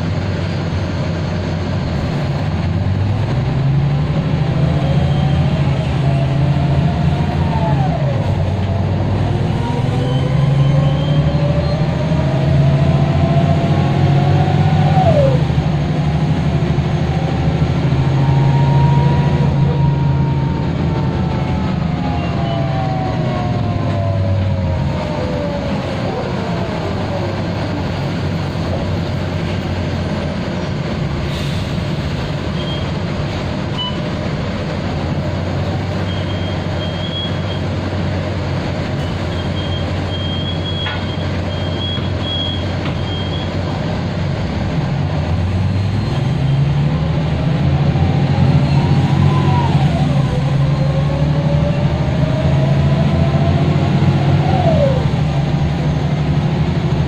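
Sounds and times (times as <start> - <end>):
bus engine running low: 0.0 - 57.0.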